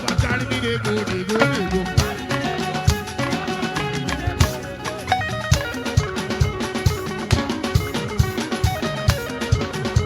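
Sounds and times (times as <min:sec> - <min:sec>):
guitar lines: 0:00.0 - 0:10.0
steady drum beat: 0:00.0 - 0:10.0.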